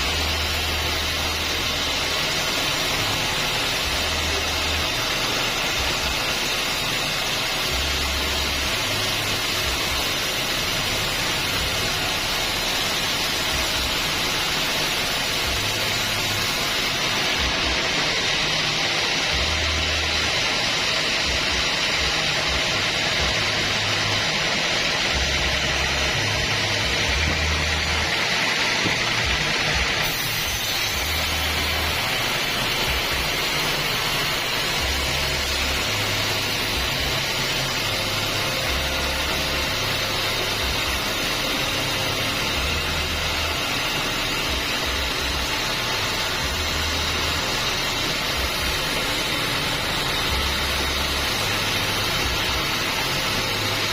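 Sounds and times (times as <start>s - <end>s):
band sawmill running: 0.0s - 53.9s.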